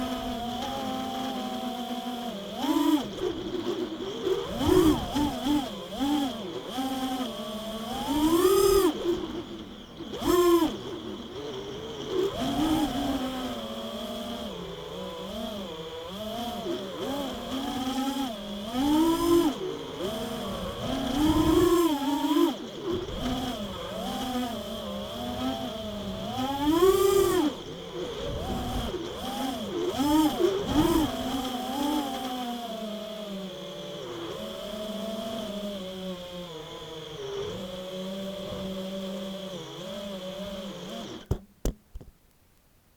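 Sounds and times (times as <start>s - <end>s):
quadcopter motors buzzing: 0.0s - 41.4s.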